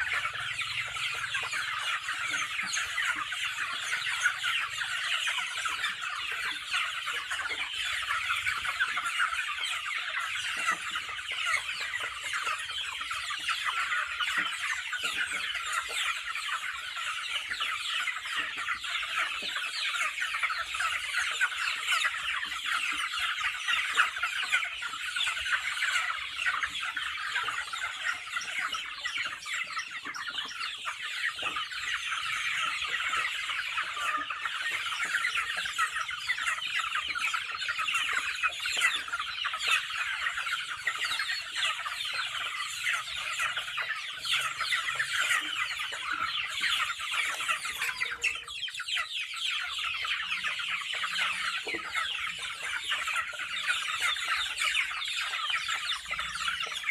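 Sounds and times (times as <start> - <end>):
chickens clucking: 0.0 - 56.9.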